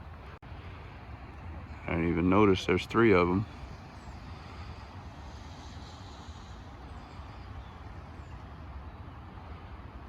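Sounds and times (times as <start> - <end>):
low rumble and hiss outdoors: 0.0 - 10.0.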